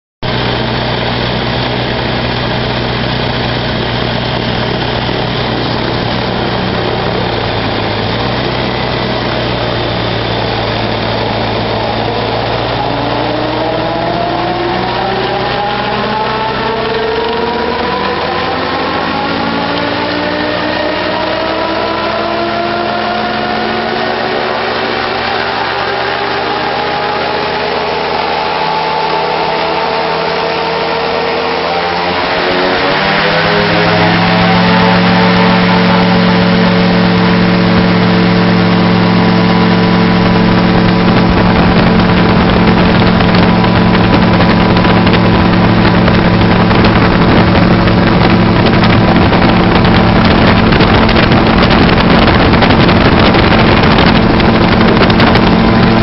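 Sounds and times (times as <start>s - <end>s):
aircraft engine and propeller: 0.2s - 56.0s
wind rushing past: 0.3s - 56.0s.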